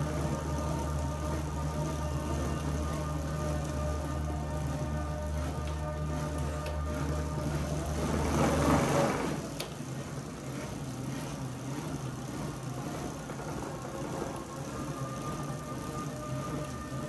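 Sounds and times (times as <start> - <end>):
bicycle tyres whirring on rollers: 0.0 - 17.0.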